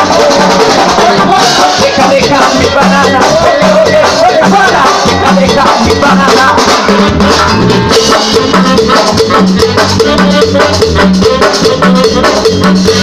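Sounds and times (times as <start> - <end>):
deep bass line: 0.0 - 13.0
drums: 0.0 - 13.0
live band playing: 0.0 - 13.0.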